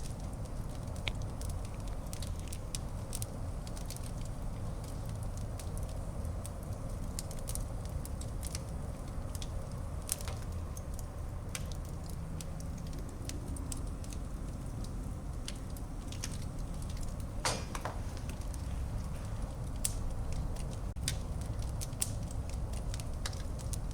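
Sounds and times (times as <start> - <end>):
fire crackling and popping: 0.0 - 23.9
low rush of flame: 0.0 - 23.9.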